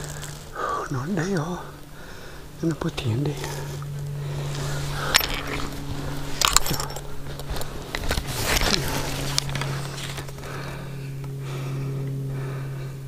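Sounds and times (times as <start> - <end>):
footsteps crunching on dry leaves: 0.0 - 11.7
twigs crackling: 0.0 - 12.6
steady low hum: 0.0 - 13.0.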